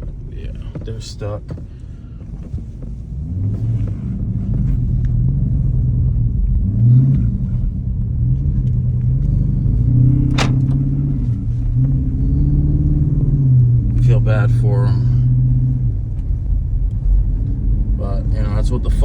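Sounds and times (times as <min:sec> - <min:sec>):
car engine pulling under load: 0:00.0 - 0:19.0.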